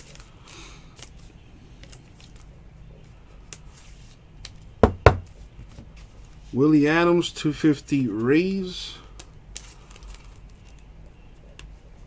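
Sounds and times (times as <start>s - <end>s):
cards and plastic holders rustling: 0.0s - 6.6s, 8.0s - 12.0s.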